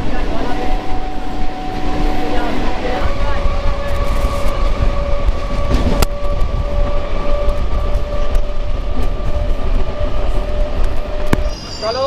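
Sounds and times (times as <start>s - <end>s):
train rumble: 0.0s - 12.0s
train whine: 0.0s - 12.0s.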